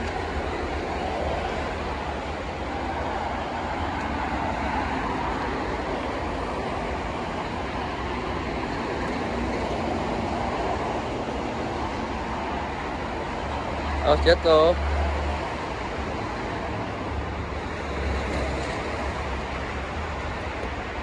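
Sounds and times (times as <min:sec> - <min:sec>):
highway traffic: 0:00.0 - 0:21.0.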